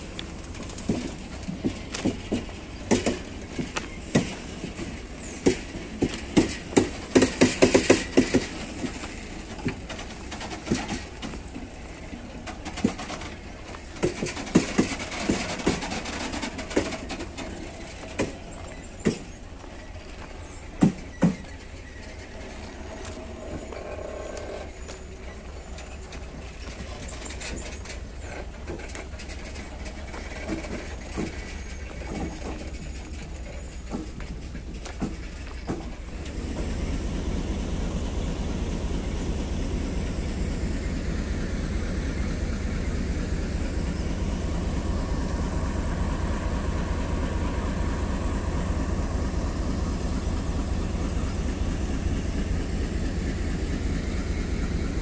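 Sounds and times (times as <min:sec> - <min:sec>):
freight train rumbling: 0:00.0 - 0:55.0
train knocks and bangs: 0:00.0 - 0:55.0.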